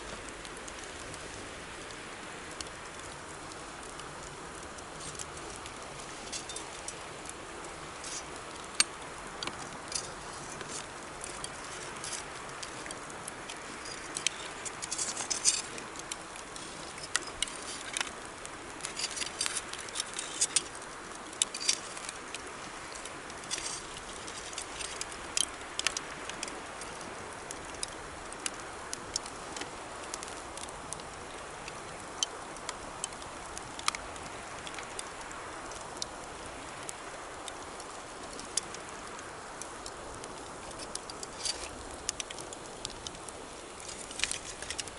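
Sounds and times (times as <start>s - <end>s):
campfire crackling and popping: 0.0s - 44.9s
river flowing: 0.0s - 44.9s.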